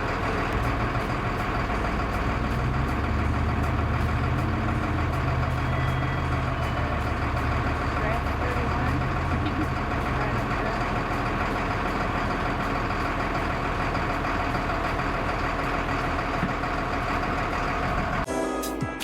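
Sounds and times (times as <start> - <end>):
fire engine idling: 0.0 - 18.3.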